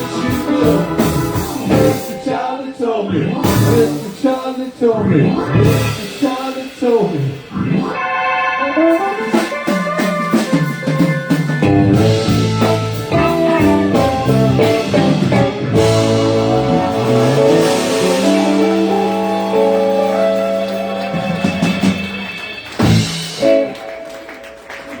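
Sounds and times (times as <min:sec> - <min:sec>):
live band with guitar and drums: 0:00.0 - 0:02.6, 0:03.4 - 0:25.0.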